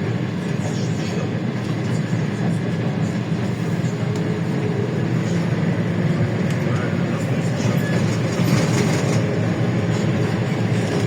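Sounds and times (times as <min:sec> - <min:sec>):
bus engine running: 0:00.0 - 0:11.0
road noise: 0:00.0 - 0:11.0.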